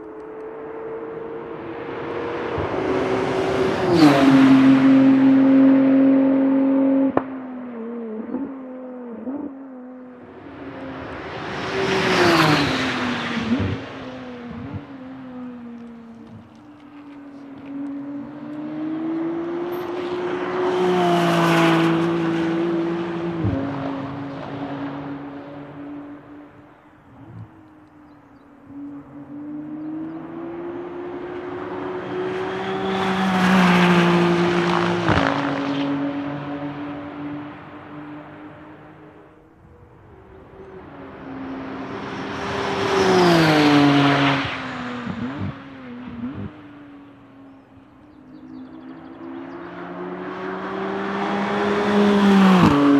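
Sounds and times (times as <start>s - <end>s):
race car engine accelerating past: 0.2s - 39.3s, 39.9s - 52.9s.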